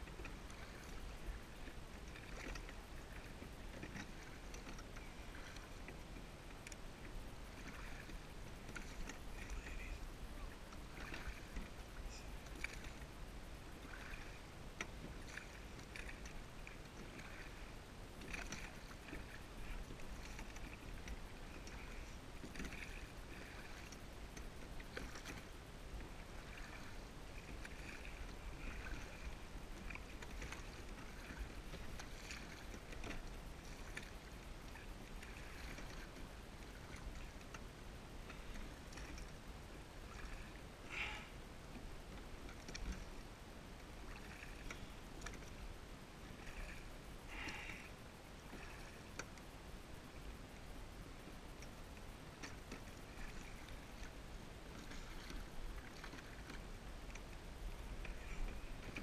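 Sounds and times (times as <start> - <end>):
faint low rumble: 0.0 - 59.0
paddle splashing in water: 0.0 - 59.0.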